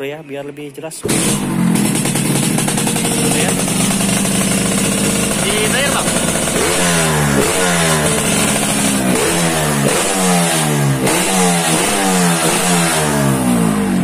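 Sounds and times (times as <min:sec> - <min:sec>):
motorcycle engine revving: 0:01.0 - 0:14.0.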